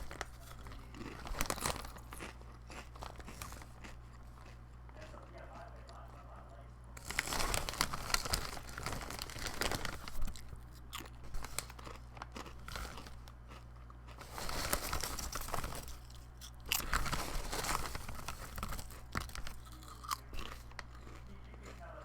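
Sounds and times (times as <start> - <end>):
chewing potato chips: 0.0 - 22.0
steady low hum: 0.0 - 22.0.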